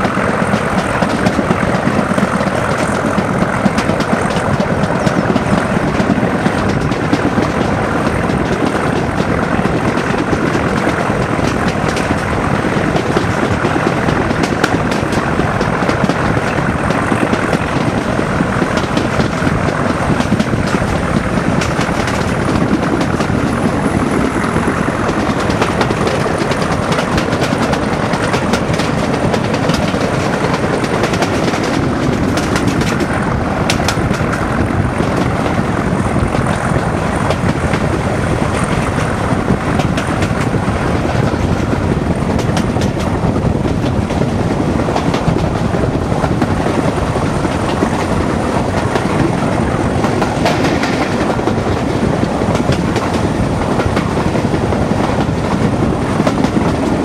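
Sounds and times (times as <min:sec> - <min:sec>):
diesel locomotive engine working hard: 0:00.0 - 0:57.0
train wheels clacking on rail joints: 0:00.0 - 0:57.0.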